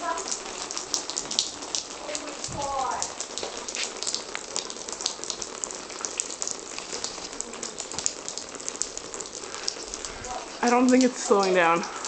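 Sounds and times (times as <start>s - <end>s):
water drops pattering: 0.0s - 12.0s.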